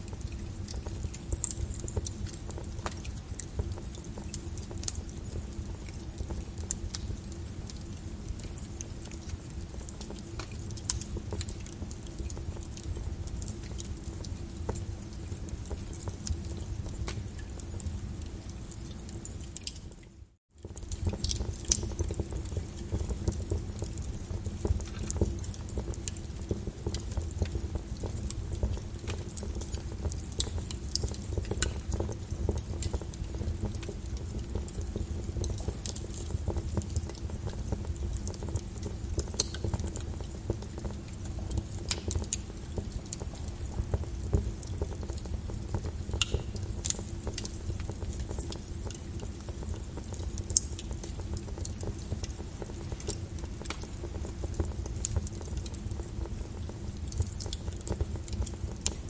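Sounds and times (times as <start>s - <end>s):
wood fire crackling: 0.0s - 59.0s
sharp pops and snaps: 5.8s - 19.8s, 20.6s - 59.0s.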